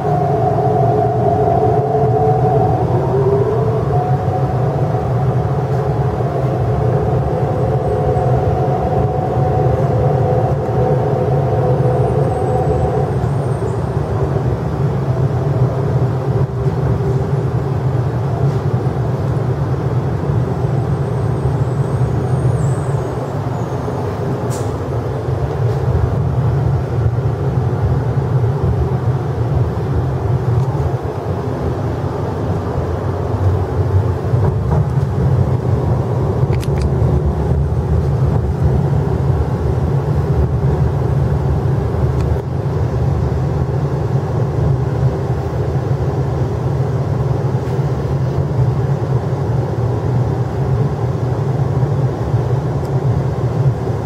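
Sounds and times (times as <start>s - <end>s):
wheels rumbling on rails: 0.0s - 54.0s.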